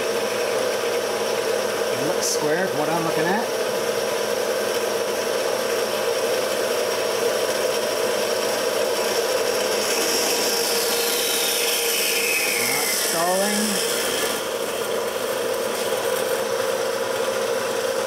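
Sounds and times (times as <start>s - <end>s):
band saw cutting metal: 0.0s - 3.5s, 5.5s - 18.0s.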